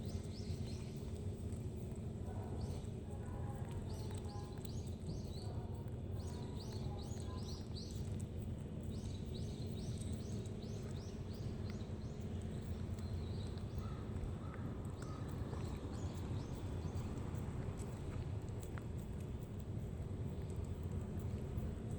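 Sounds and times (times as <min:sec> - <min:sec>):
faint clicks: 0:00.0 - 0:21.9
small birds chirping: 0:00.0 - 0:21.9
steady low rumble: 0:00.0 - 0:21.9.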